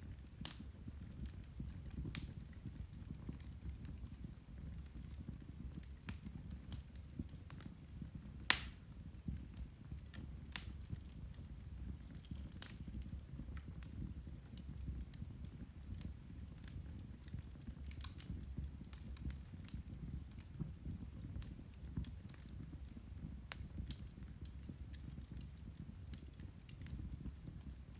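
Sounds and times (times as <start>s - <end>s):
fire crackling pops and snaps: 0.0s - 27.9s.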